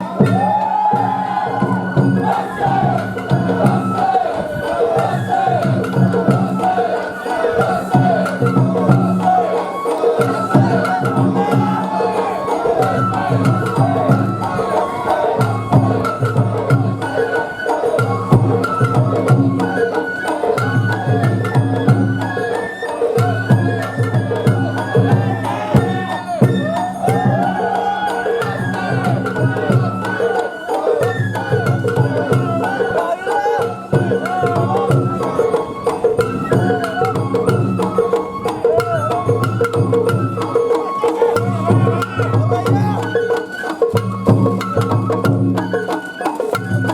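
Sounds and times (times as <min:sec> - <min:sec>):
bamboo flute melody: 0:00.0 - 0:46.9
sharp percussion strikes: 0:00.0 - 0:46.9
taiko drums: 0:00.0 - 0:46.9.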